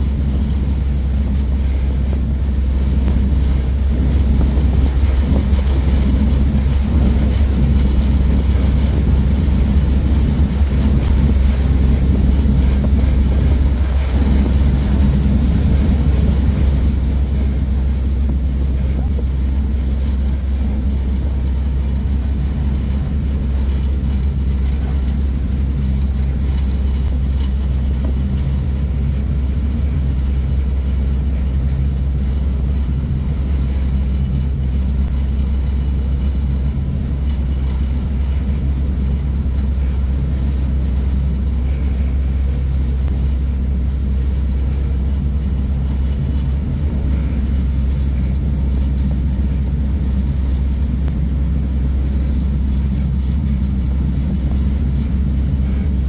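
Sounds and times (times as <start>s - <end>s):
propeller wash rushing: 0.0s - 56.0s
ship engines droning: 0.0s - 56.0s
wind: 0.0s - 56.0s.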